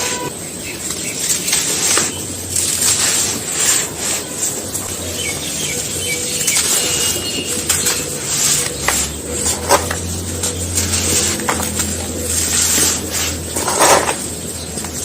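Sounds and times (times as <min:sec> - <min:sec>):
gritty material being crushed: 0:00.8 - 0:15.0.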